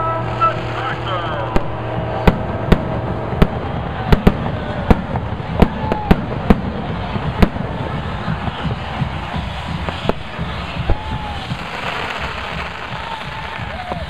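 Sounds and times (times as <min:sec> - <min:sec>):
sharp bangs: 0:00.0 - 0:14.0
steady rushing hiss: 0:00.0 - 0:14.0.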